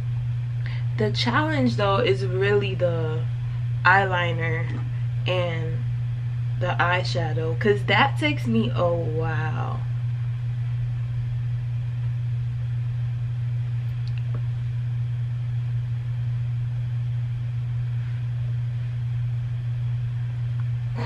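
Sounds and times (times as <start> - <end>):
room hum: 0.0 - 21.0.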